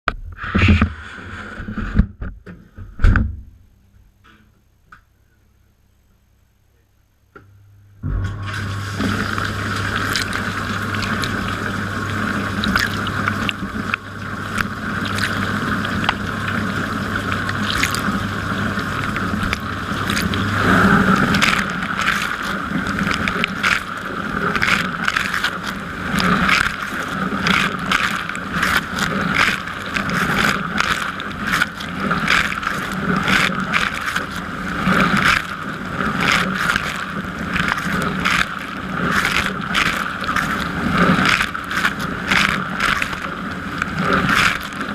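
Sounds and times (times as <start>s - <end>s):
low motor hum: 7.4s - 44.9s
dishwasher water spraying: 8.2s - 44.9s.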